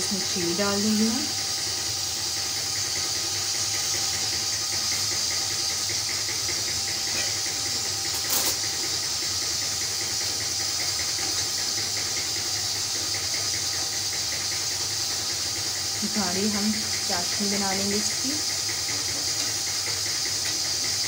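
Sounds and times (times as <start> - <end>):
kitchen hiss and low hum: 0.0 - 21.0.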